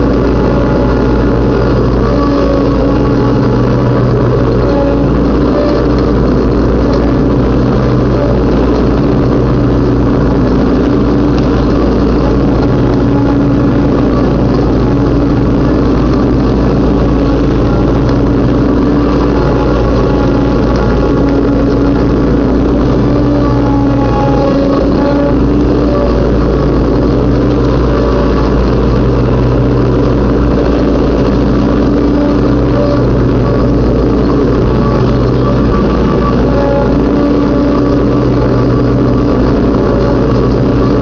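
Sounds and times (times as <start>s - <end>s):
riding lawnmower engine running: 0.0s - 41.0s.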